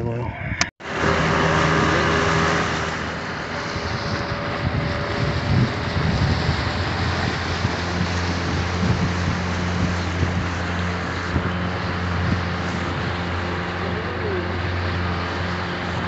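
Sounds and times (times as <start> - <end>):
boat motor humming: 0.0 - 16.0
water rushing past hull: 0.8 - 16.0.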